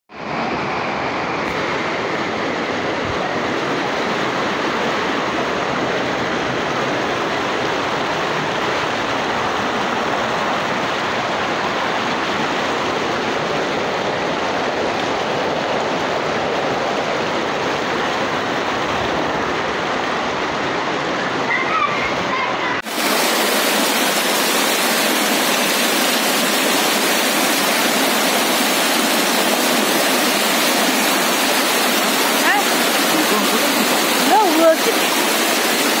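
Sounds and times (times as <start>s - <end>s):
muddy water rushing: 0.1s - 36.0s.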